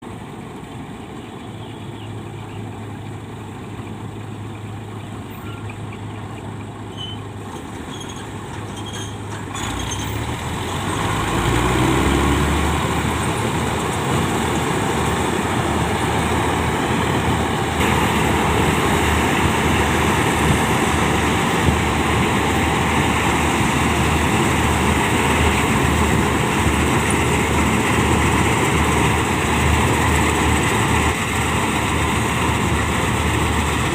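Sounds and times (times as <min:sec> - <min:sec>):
combine harvester engine drone: 0:00.0 - 0:33.9.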